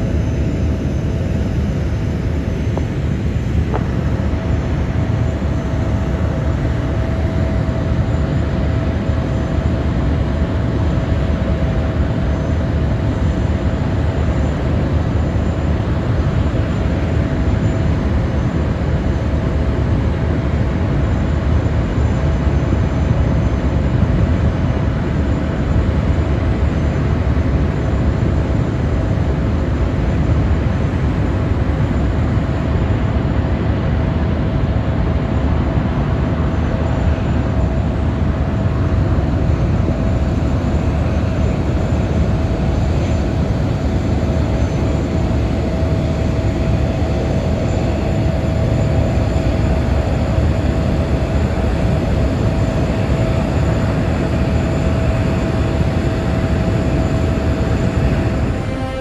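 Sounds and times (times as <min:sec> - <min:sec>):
jet engine rumble: 0:00.0 - 0:59.0
jet engine whine: 0:00.0 - 0:59.0.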